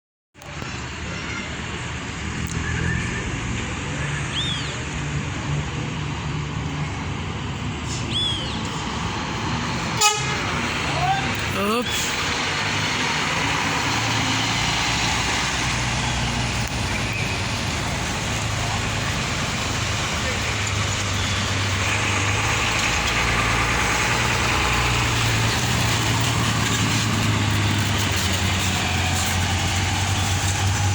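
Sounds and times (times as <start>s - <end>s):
bus diesel engine humming: 3.2s - 30.9s.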